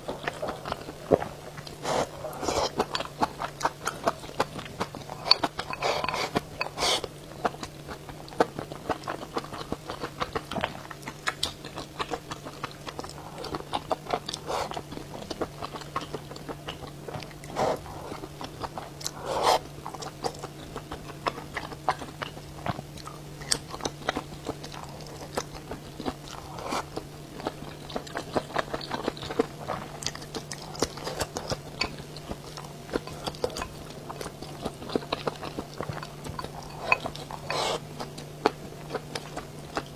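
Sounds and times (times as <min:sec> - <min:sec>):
chewing and mouth clicks: 0:00.0 - 0:39.9
steady low hum: 0:00.0 - 0:39.9.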